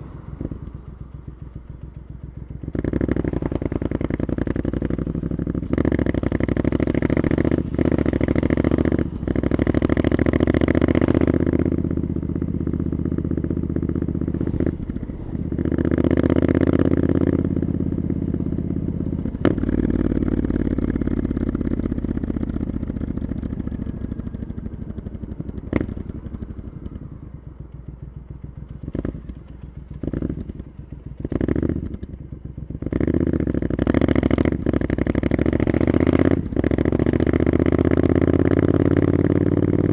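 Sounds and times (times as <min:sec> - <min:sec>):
motorcycle engine revving through gears: 0:00.0 - 0:27.9, 0:28.5 - 0:39.9.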